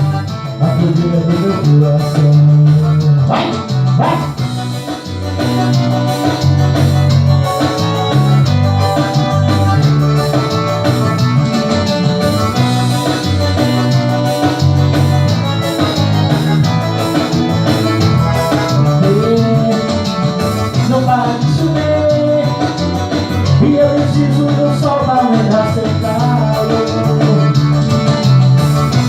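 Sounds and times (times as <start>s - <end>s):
instrumental pop band: 0.0s - 29.0s.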